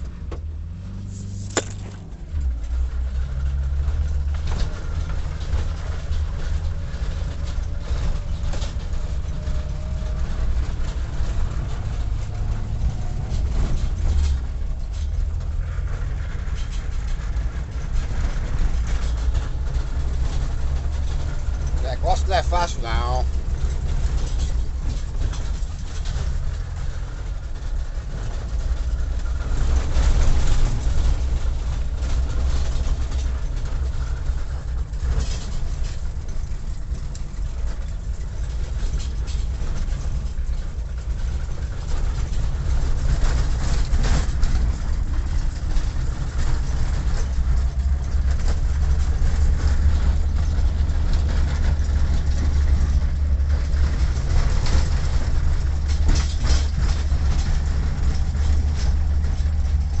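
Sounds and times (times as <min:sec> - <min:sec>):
vehicle engine and road rumble: 0:00.0 - 1:00.0.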